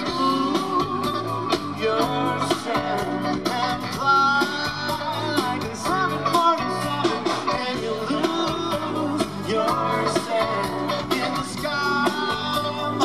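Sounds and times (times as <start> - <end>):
lead singer singing: 0.0 - 13.0
live rock band playing: 0.0 - 13.0.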